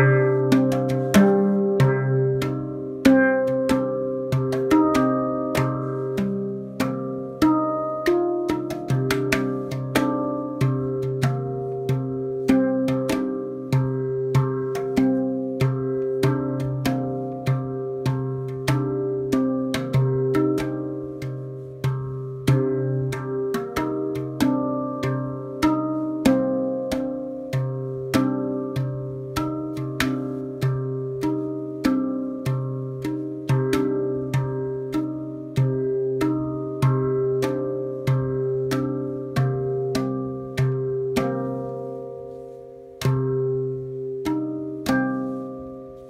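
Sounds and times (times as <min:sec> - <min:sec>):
handpan notes ringing: 0:00.0 - 0:46.0.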